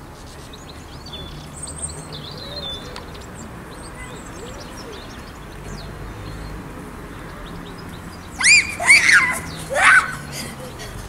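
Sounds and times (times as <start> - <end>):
outdoor rush: 0.0 - 11.0
small birds chirping: 0.0 - 11.0.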